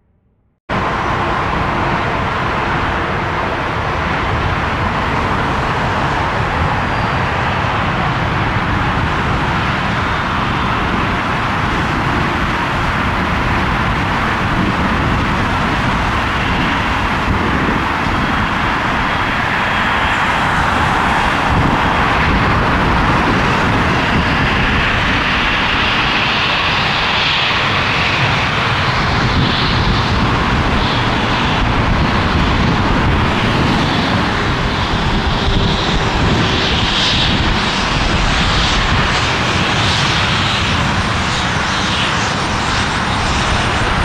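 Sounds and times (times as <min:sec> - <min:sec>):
jet engines running: 0:00.6 - 0:44.0.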